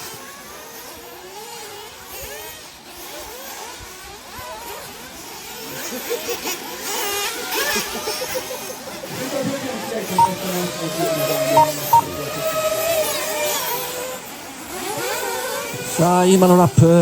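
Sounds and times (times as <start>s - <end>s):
rc car engines revving: 0.0s - 10.2s, 12.2s - 17.0s.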